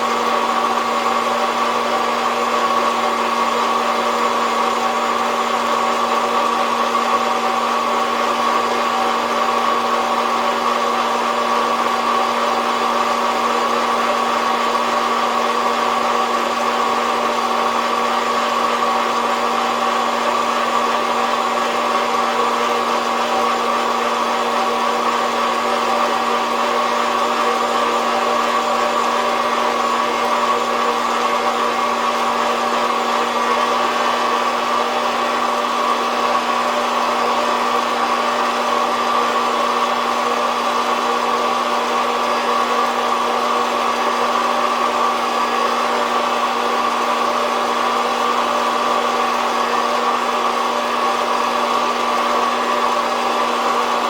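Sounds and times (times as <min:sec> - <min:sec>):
coffee roaster fan whooshing: 0:00.0 - 0:54.0.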